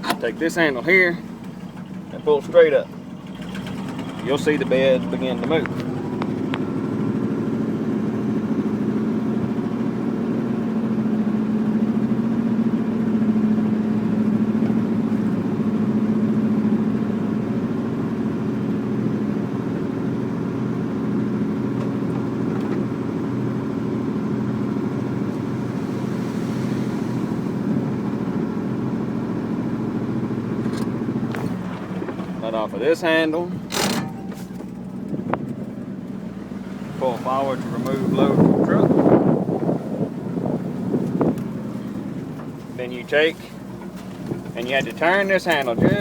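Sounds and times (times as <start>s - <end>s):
truck engine running under load: 0.0s - 46.0s.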